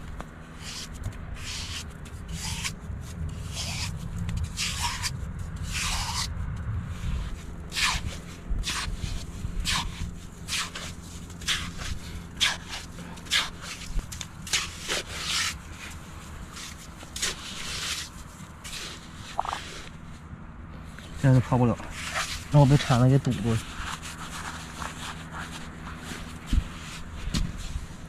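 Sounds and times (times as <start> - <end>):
rough scraping and rubbing: 0.0 - 28.0
steady low rumble: 0.0 - 28.0.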